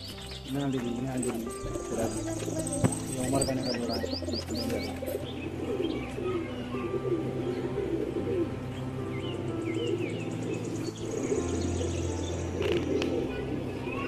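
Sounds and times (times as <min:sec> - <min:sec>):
pigeons cooing: 0:00.7 - 0:14.0.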